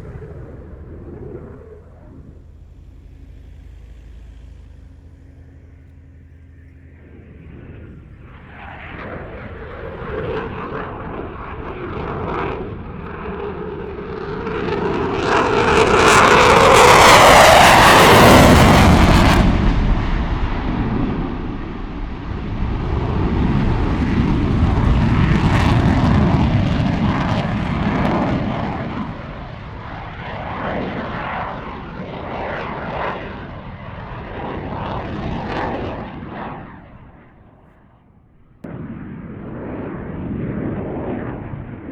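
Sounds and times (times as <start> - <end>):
aircraft flying low past: 0.0 - 41.9.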